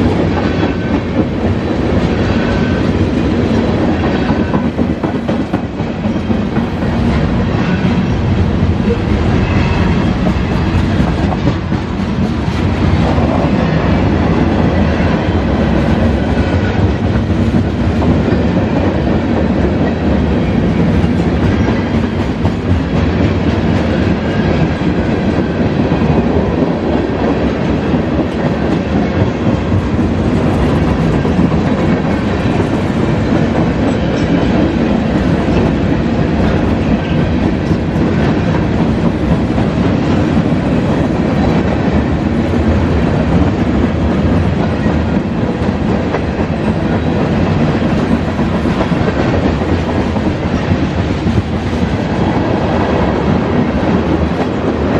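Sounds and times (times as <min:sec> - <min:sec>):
freight train wheels clattering: 0:00.0 - 0:54.9.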